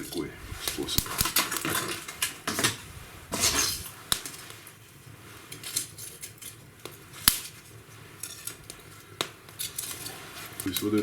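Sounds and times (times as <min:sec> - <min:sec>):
fire crackling and popping: 0:00.0 - 0:11.0.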